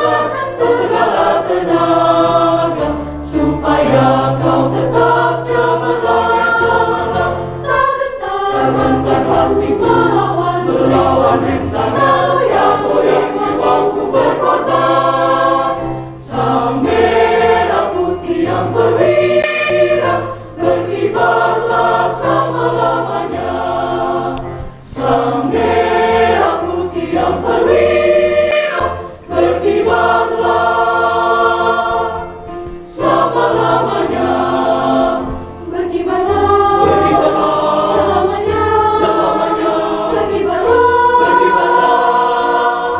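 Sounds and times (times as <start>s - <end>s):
mixed choir singing: 0.0s - 42.9s.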